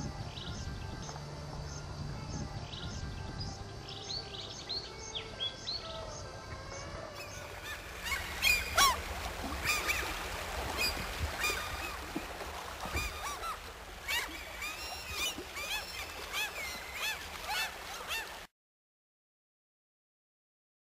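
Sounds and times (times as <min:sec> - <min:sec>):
waterbirds calling: 0:00.0 - 0:18.5.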